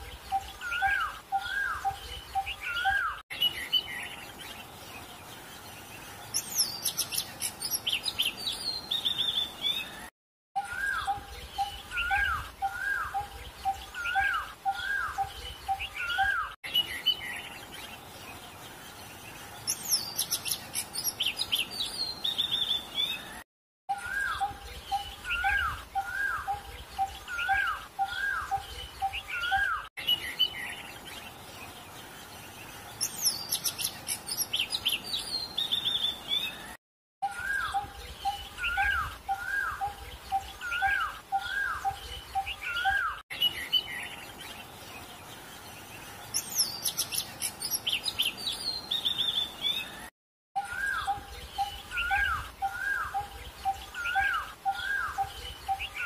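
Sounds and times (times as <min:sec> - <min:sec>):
birds twittering: 0:00.0 - 0:56.0.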